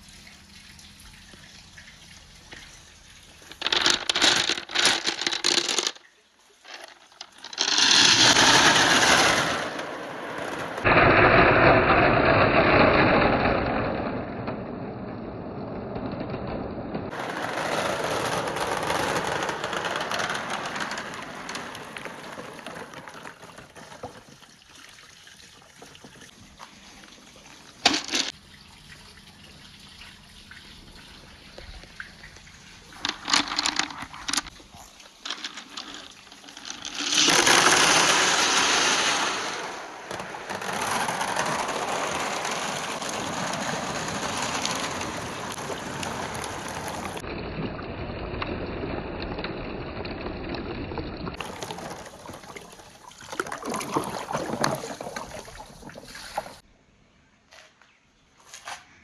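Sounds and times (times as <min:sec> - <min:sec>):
water rushing through pipes: 0:00.0 - 0:04.7, 0:06.5 - 0:56.6.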